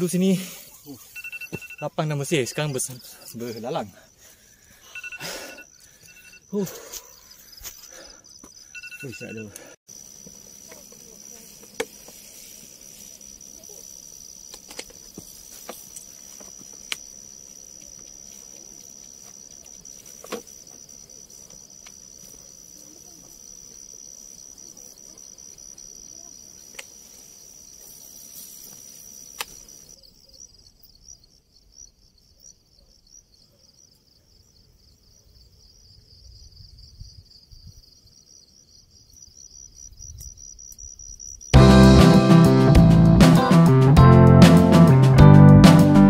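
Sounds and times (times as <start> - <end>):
night insects chirring: 0.0 - 41.6.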